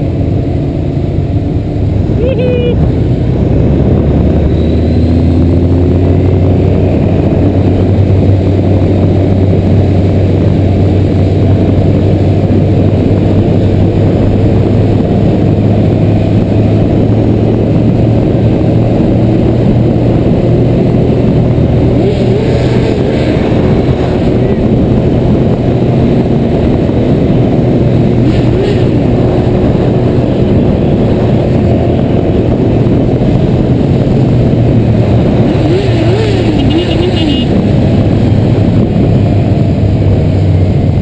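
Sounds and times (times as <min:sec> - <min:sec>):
motorcycle engine running: 0:00.0 - 0:41.0
road and wind noise: 0:00.0 - 0:41.0.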